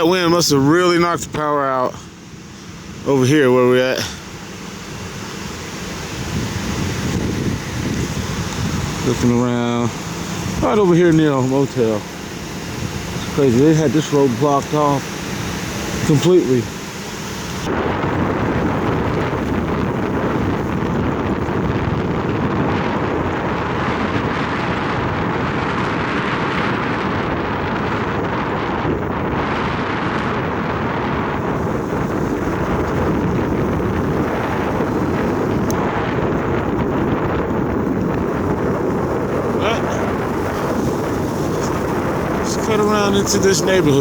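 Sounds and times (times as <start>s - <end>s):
road noise: 0.0s - 44.0s
wind rushing over microphone: 0.0s - 44.0s.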